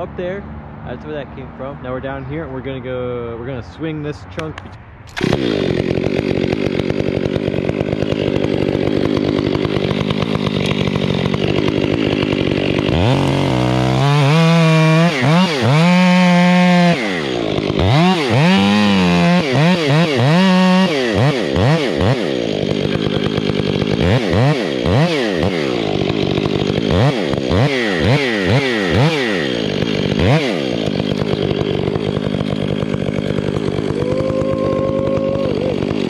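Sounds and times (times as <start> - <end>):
chainsaw cutting wood: 4.4 - 36.0.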